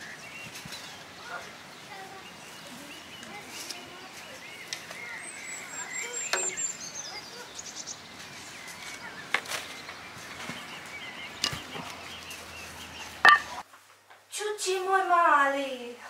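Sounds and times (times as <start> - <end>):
birds singing: 0.0 - 13.7.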